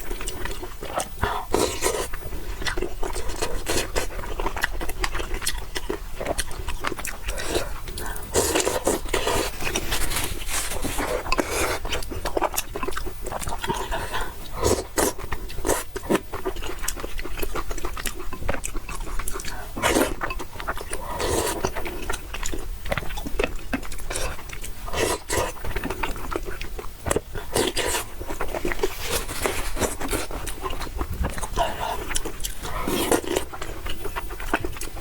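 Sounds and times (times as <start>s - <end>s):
person chewing noodles: 0.0s - 35.0s.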